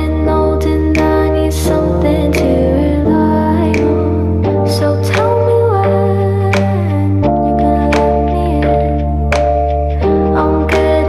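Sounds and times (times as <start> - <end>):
keyboard chords: 0.0 - 11.0.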